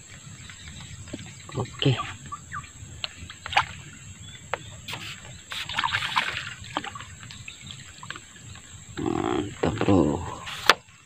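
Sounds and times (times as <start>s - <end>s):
floating grass rustling: 0.0s - 11.0s
water splashing: 0.0s - 11.0s.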